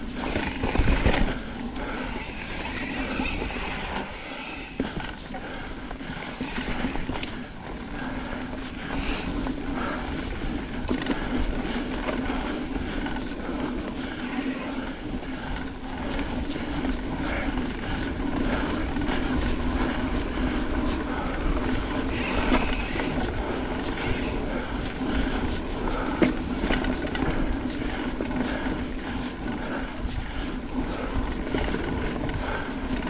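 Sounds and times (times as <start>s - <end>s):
bike rattling and knocking: 0.0s - 33.0s
bike tyre rumble on dirt: 0.0s - 33.0s.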